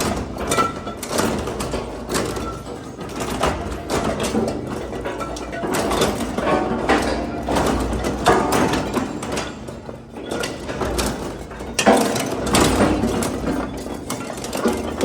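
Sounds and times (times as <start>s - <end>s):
metal clanking and crunching: 0.0s - 15.0s.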